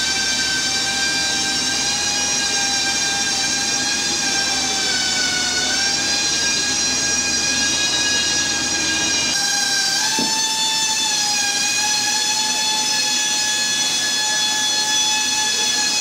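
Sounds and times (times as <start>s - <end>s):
high-pitched mechanical whine: 0.0s - 16.0s.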